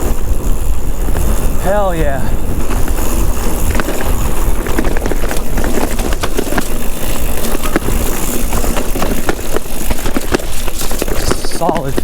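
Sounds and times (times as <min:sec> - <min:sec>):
bike knocks and rattles: 0:00.0 - 0:12.0
bike tyres rumbling over rocks: 0:00.0 - 0:12.0.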